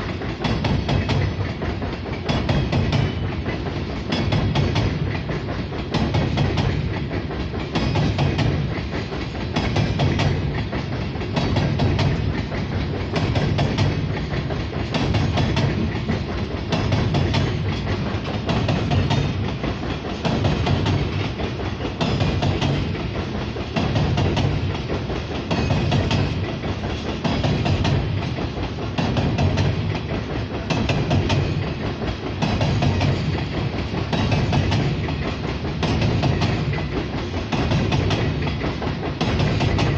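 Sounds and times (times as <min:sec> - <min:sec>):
freight train low rumble: 0:00.0 - 0:39.9
wheels clattering over rail joints: 0:00.0 - 0:39.9.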